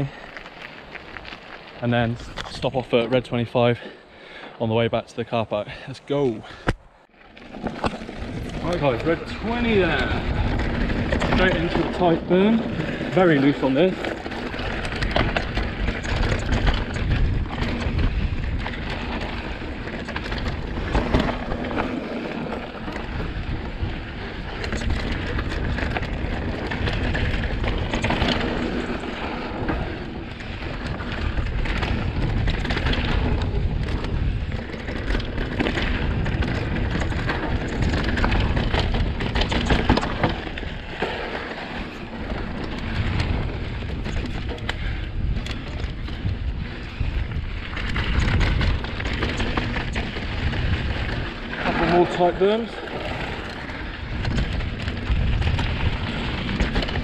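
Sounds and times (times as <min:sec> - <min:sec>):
tyres rolling over gravel: 0:00.0 - 0:04.4, 0:07.2 - 0:57.0
bike clicks and rattles: 0:00.0 - 0:04.6, 0:06.4 - 0:57.0
wind rumble on microphone: 0:07.5 - 0:57.0.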